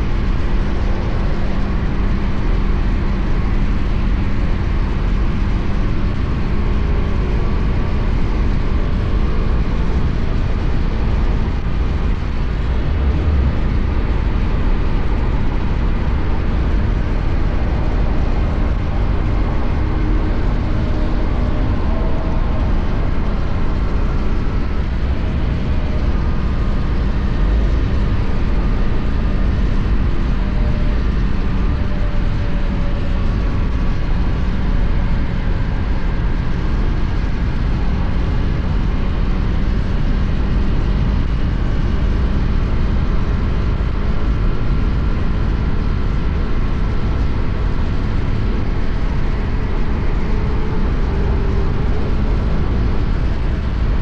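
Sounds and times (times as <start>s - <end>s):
motorcycle engine cruising: 0.0s - 54.0s
road noise: 0.0s - 54.0s.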